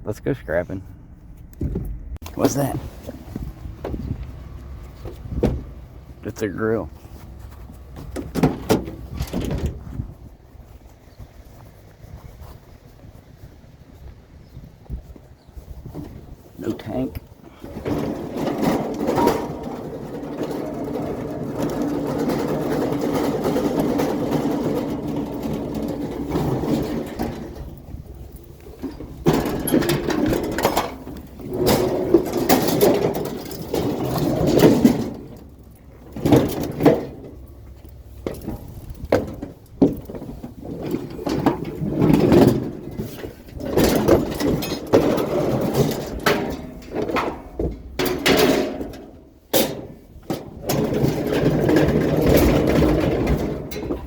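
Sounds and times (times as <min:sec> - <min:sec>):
steady engine hum: 0:00.0 - 0:44.6
metal knocks clanks and scraping: 0:01.3 - 0:13.2, 0:14.4 - 0:54.0.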